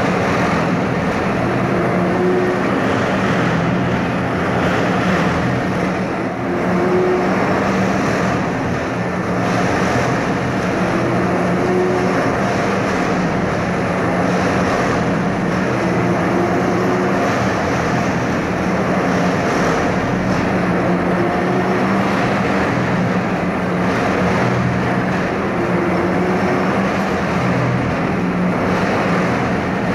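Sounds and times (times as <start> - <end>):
track machine engine humming: 0.0 - 29.9.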